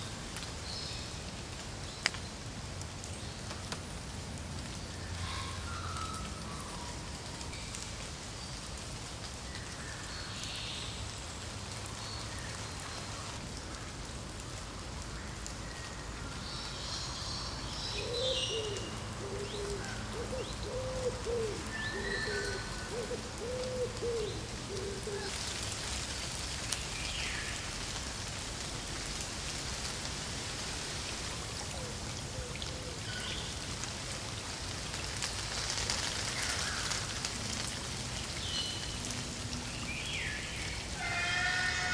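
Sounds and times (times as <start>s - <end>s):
rain pattering on ground and leaves: 0.0s - 41.9s.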